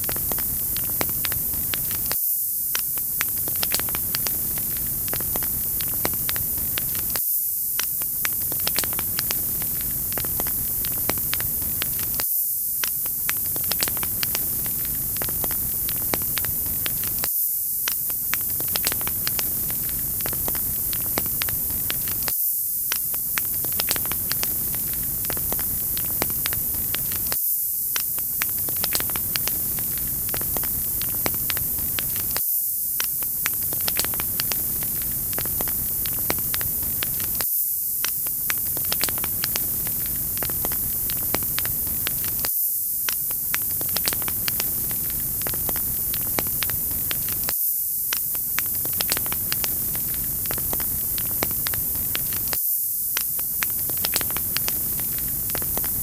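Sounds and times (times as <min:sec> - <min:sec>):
wood fire crackling: 0:00.0 - 0:07.2, 0:07.8 - 0:12.2, 0:12.8 - 0:22.3, 0:23.0 - 0:32.4, 0:33.0 - 0:37.4, 0:38.0 - 0:47.5, 0:48.1 - 0:56.0.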